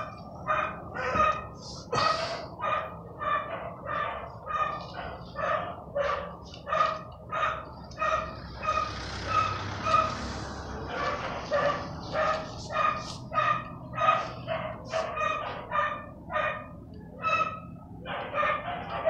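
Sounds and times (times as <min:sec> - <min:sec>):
dog barking: 0:00.0 - 0:19.0.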